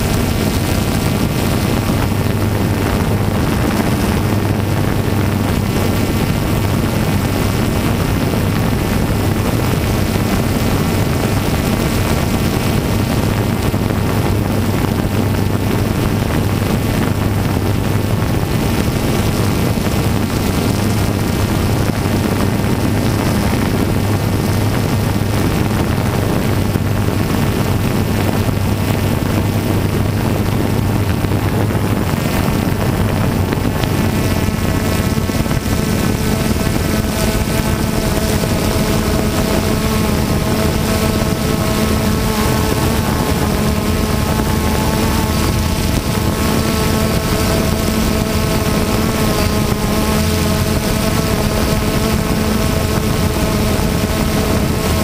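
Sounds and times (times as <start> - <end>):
aircraft motor and propeller: 0.0 - 55.0
wind rushing over microphone: 0.0 - 55.0.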